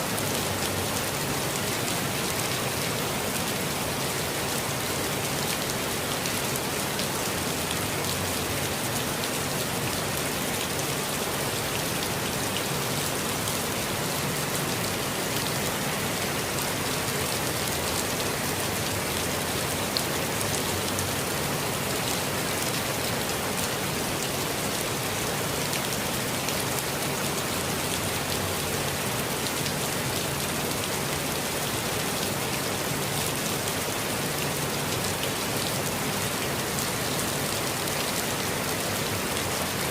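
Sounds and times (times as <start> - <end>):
rain pattering in forest: 0.0 - 39.9.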